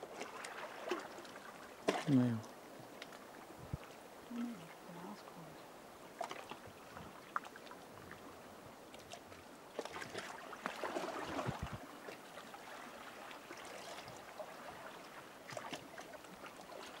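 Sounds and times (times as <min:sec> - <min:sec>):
small waves lapping: 0:00.0 - 0:17.0.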